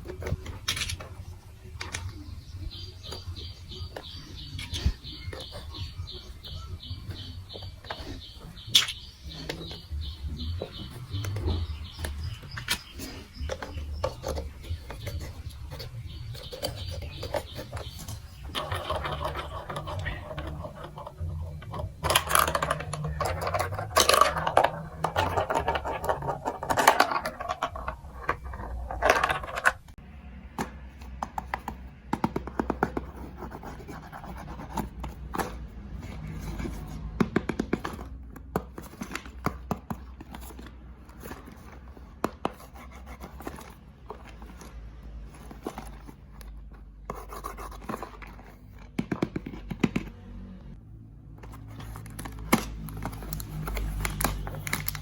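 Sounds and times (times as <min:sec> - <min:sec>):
plastic blocks scraping and rattling: 0:00.0 - 0:30.0, 0:30.6 - 0:50.2, 0:51.3 - 0:55.0.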